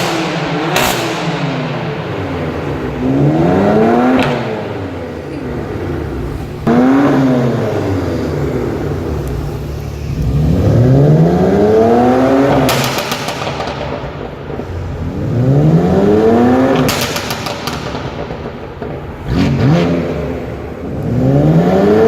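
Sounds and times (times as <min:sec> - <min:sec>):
car engine revving: 0:00.0 - 0:22.0
exhaust crackles and pops: 0:00.0 - 0:22.0.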